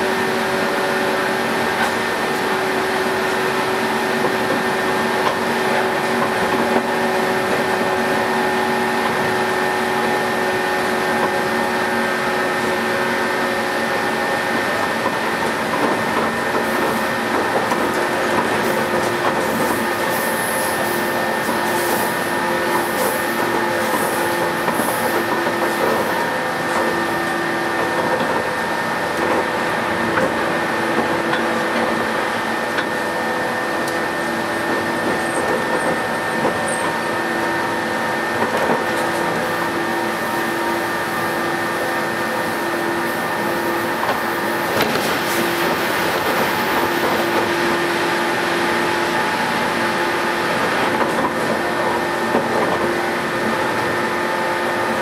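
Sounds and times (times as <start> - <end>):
train motor whine: 0.0 - 55.0
wheels rumbling on rail: 0.0 - 55.0.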